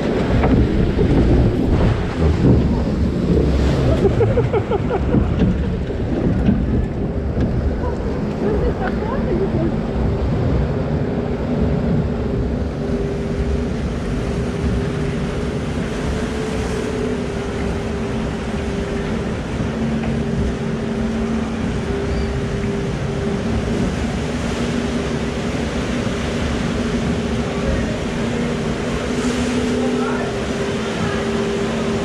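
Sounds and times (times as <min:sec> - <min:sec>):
low hum: 0:00.0 - 0:32.0
water rushing and churning: 0:00.0 - 0:32.0.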